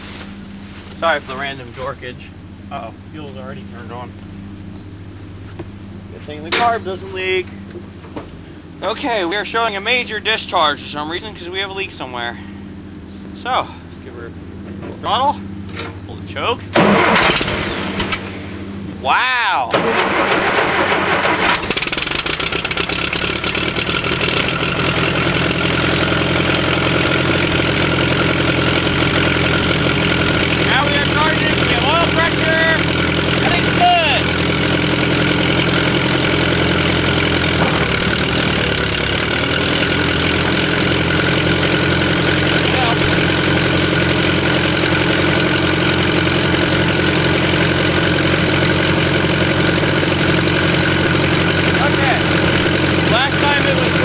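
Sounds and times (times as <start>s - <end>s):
bulldozer engine running: 0.0s - 54.0s.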